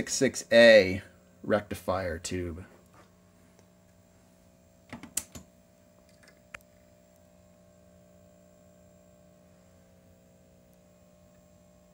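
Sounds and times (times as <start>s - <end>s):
faint electrical hum: 0.0s - 11.9s.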